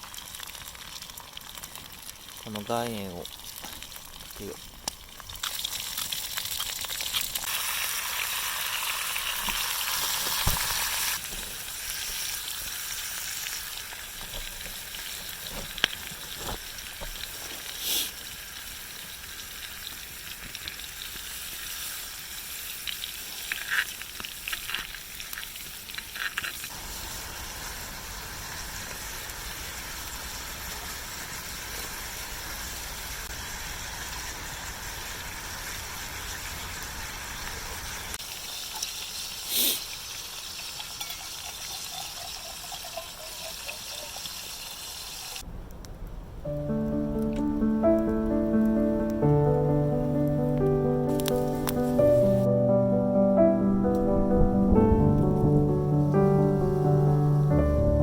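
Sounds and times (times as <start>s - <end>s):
steak sizzling: 0.0s - 58.0s.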